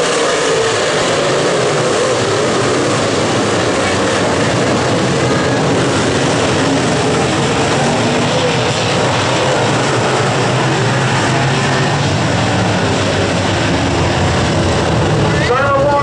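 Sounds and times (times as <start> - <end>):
race car engines roaring: 0.0 - 16.0.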